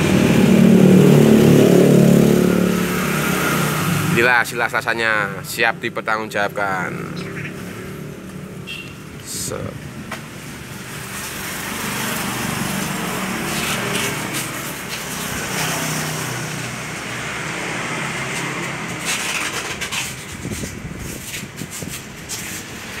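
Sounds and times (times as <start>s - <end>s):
two-stroke motorcycle engine revving: 0.0s - 8.8s, 10.8s - 20.6s.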